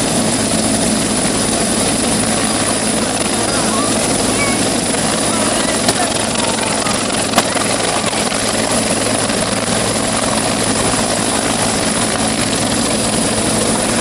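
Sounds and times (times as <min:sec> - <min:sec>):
helicopter rotor and turbine: 0:00.0 - 0:14.0.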